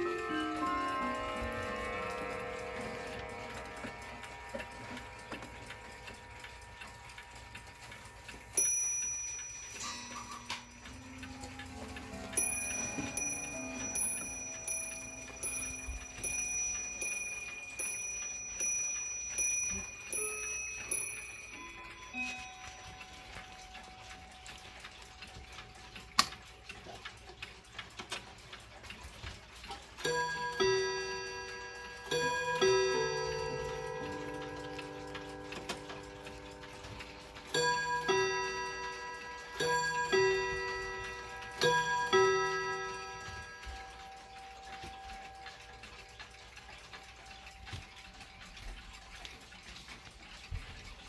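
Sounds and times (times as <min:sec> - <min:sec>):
clock chiming melody: 0:00.0 - 0:51.0
clock ticking: 0:00.0 - 0:51.0.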